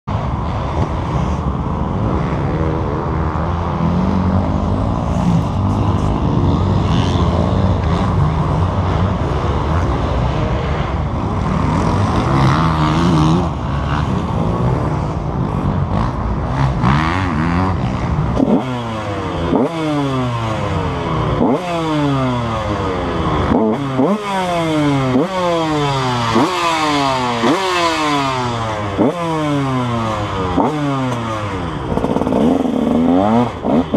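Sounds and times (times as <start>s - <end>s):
motocross engine revving: 2.2s - 33.9s.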